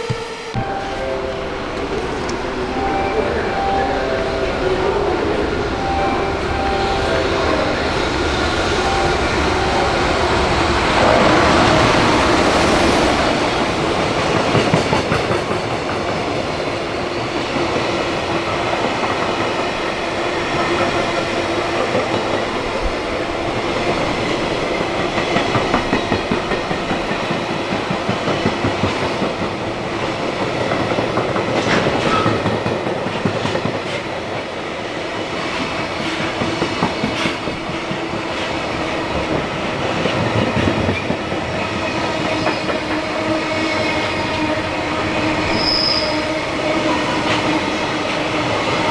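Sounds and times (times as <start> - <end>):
freight train wheels clattering: 0.0 - 48.9.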